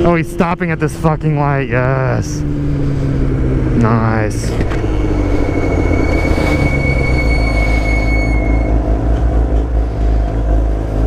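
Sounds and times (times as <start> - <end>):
brakes squealing: 0.0 - 11.0.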